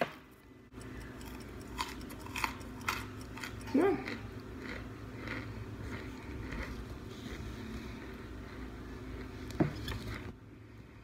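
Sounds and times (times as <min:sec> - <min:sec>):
low steady hum: 0:00.0 - 0:11.0
chewing crunchy food: 0:00.7 - 0:10.4.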